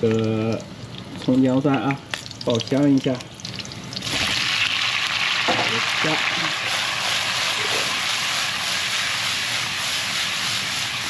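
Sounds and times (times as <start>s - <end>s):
aromatics sizzling in hot oil: 0.0s - 11.0s.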